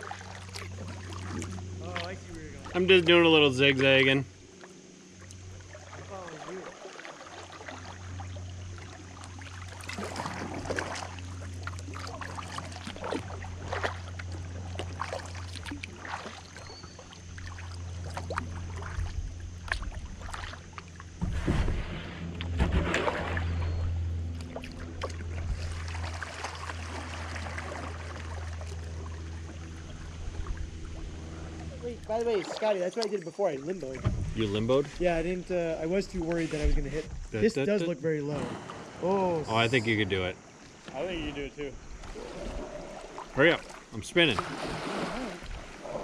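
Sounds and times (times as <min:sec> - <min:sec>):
paddle strokes splashing in water: 0:00.0 - 0:35.1, 0:41.9 - 0:46.0
steady low hum: 0:00.0 - 0:46.0.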